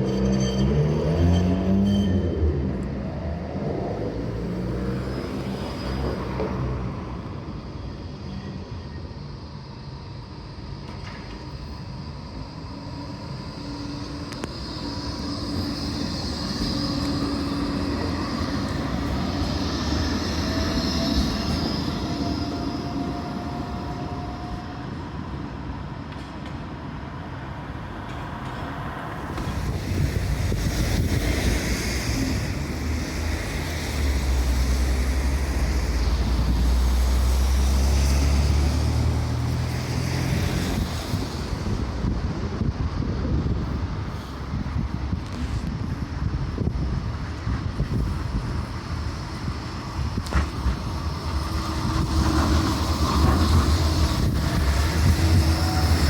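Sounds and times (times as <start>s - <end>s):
tram rumbling on rails: 0.0s - 56.0s.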